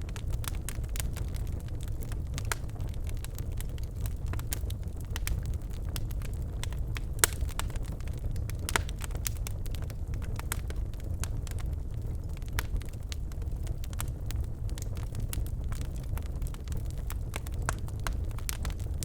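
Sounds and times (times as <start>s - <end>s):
logs crackling and popping: 0.0s - 19.0s
low rumble of fire: 0.0s - 19.0s.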